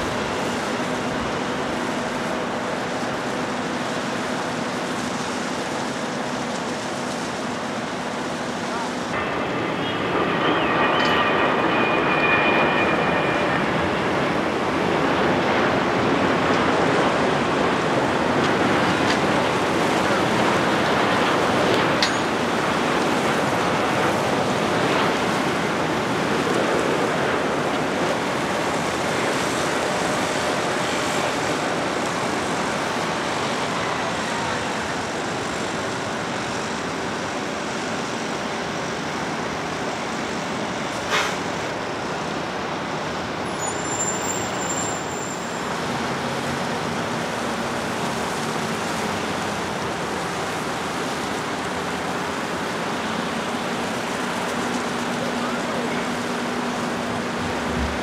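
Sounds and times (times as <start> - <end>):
jet engines roaring: 0.0 - 58.0
road traffic: 0.0 - 58.0.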